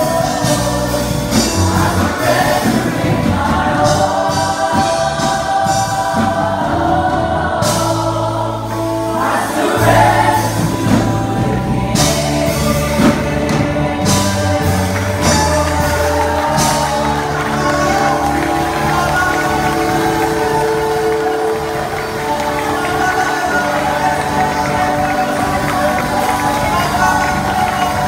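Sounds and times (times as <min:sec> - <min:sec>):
band with drums and bass: 0:00.0 - 0:28.0
voices singing together: 0:00.0 - 0:28.0.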